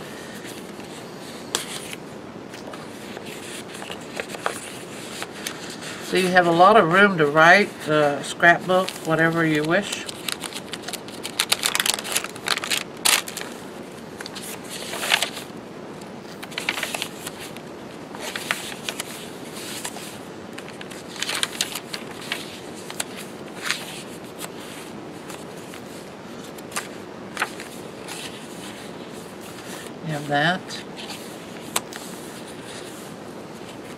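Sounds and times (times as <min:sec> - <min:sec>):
paper pages rustling: 0:00.2 - 0:06.8, 0:07.6 - 0:15.5, 0:16.2 - 0:33.9.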